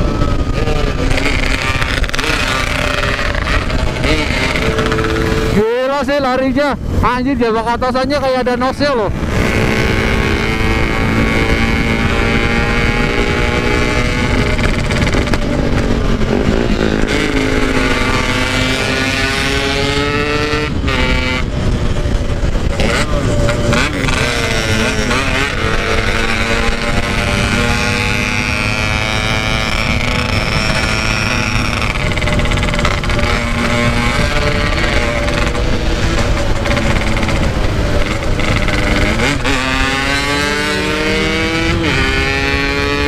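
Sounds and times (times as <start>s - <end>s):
two-stroke engine running hard: 0.0s - 5.6s, 9.1s - 43.0s
wind on microphone: 0.0s - 43.0s.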